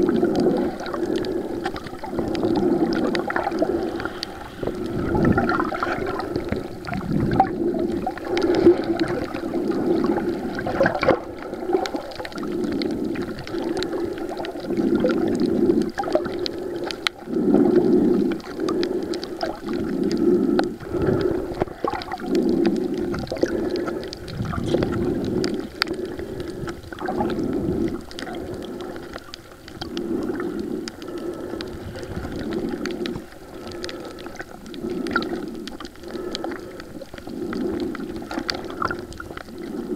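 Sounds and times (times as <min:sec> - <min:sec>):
underwater rushing water: 0:00.0 - 0:39.9
faint clicks: 0:00.1 - 0:39.9.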